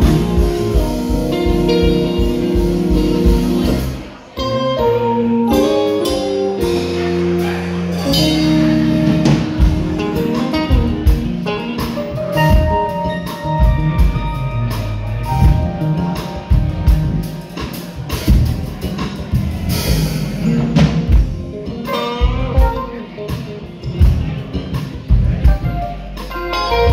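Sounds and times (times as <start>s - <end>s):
bass line: 0.0s - 26.9s
drum kit beat: 0.0s - 26.9s.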